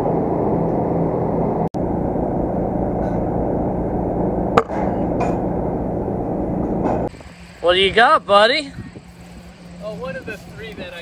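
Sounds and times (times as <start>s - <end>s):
mechanical drone with low hum: 0.0s - 11.0s.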